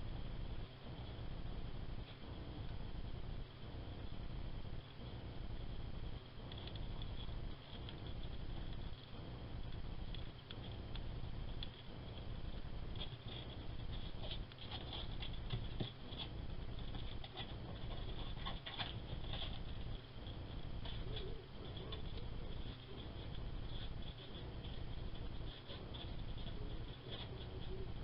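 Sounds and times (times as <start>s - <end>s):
high whine: 0.0s - 28.0s
low hum: 0.0s - 28.0s.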